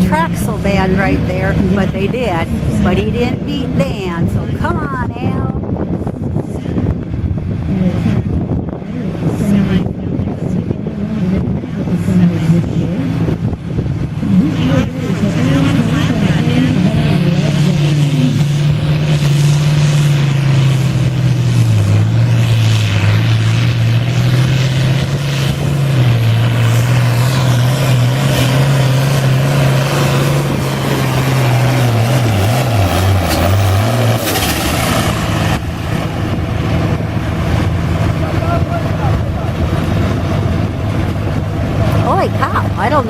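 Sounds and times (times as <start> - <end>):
diesel engine under heavy load: 0.0 - 43.0.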